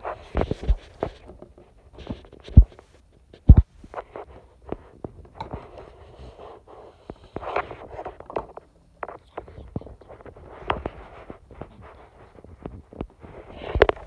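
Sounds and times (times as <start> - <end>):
small clicks and rustles: 0.0 - 6.0, 7.0 - 14.0.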